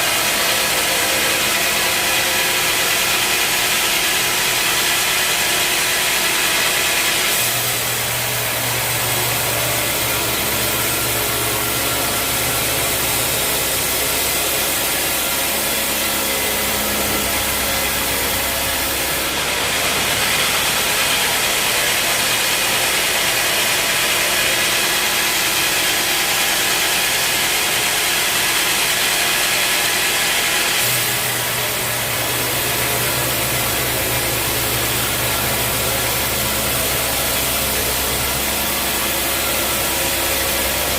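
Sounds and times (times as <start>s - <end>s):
bandsaw sawing a log: 0.0s - 40.9s
engine hum: 0.0s - 40.9s.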